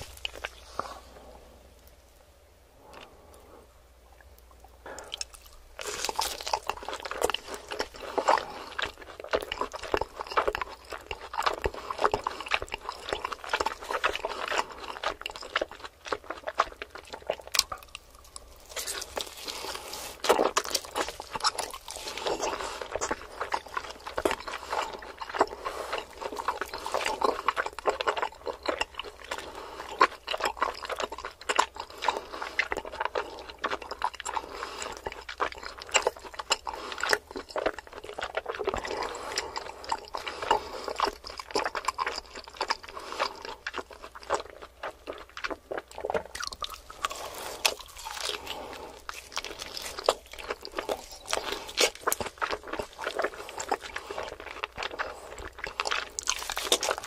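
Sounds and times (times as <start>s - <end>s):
wet chewing of meat: 0.0s - 1.3s, 4.2s - 57.0s.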